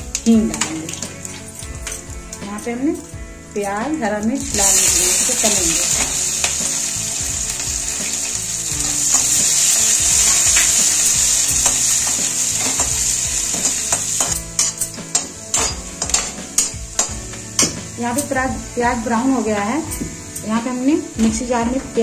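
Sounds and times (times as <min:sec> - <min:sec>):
food sizzling in hot oil: 0:03.1 - 0:21.2.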